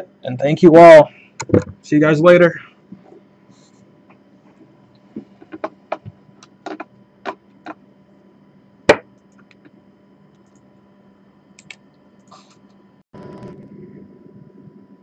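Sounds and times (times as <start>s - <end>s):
faint steady hum: 0.0s - 15.0s
room noise: 0.0s - 15.0s.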